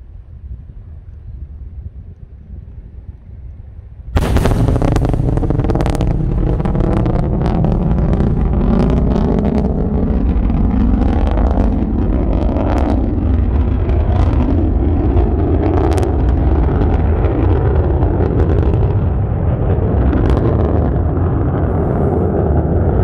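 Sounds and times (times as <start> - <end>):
crackling rocket engine rumble: 0.0 - 23.0.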